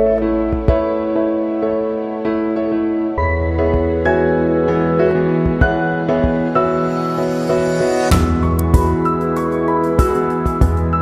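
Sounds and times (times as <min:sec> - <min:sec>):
background music with sustained chords: 0:00.0 - 0:11.0.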